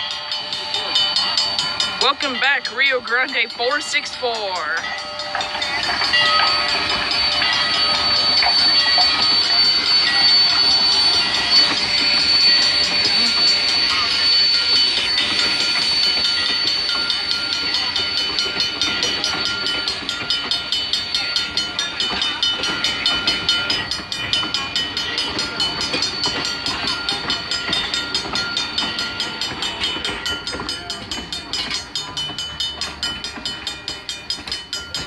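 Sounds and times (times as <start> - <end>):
railroad crossing bell ringing: 0.0 - 35.0
train wheels clattering on rails: 0.0 - 35.0.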